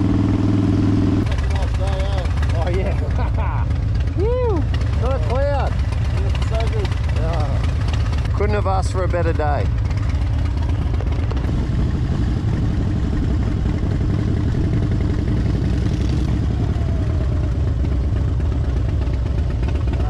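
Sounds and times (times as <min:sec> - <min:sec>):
motorcycle engine rumble: 0:00.0 - 0:20.0
road and wind noise: 0:00.0 - 0:20.0.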